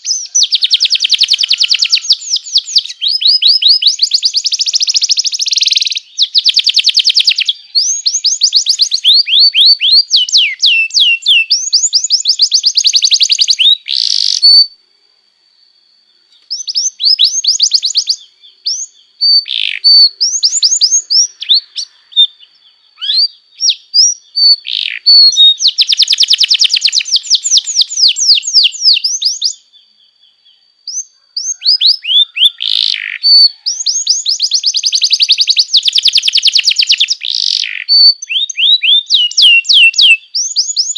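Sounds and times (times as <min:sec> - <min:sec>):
canary singing: 0:00.0 - 0:14.8, 0:16.2 - 0:40.9.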